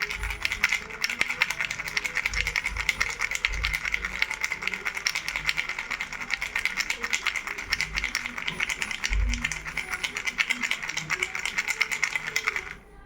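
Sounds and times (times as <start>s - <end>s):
baby rattle shaking: 0.0s - 12.8s.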